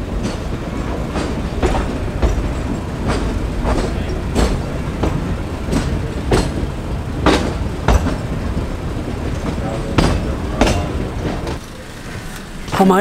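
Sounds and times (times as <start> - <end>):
train wheels rumbling on track: 0.0 - 13.0
wheels clacking over rail joints: 0.0 - 13.0.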